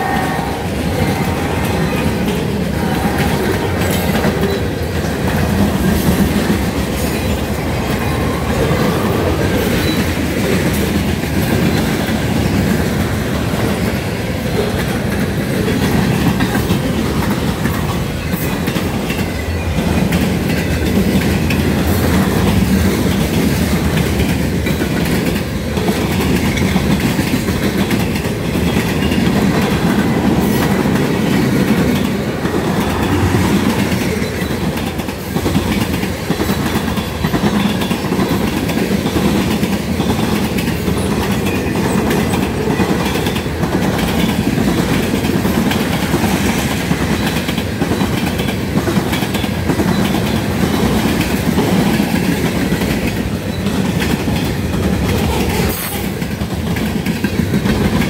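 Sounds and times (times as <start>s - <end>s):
freight train rumbling past: 0.0s - 58.0s
wheels clicking over rail joints: 0.0s - 58.0s.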